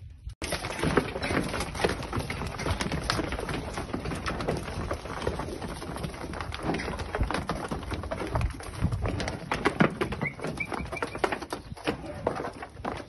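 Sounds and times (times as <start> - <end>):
hooves clattering on concrete: 0.3 - 13.0.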